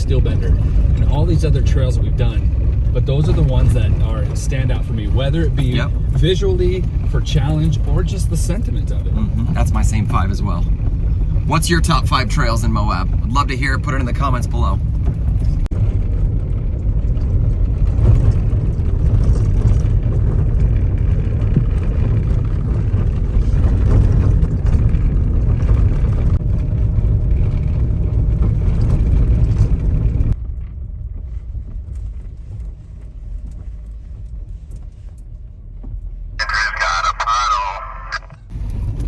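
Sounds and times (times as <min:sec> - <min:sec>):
vehicle engine and tyre rumble: 0:00.0 - 0:39.0.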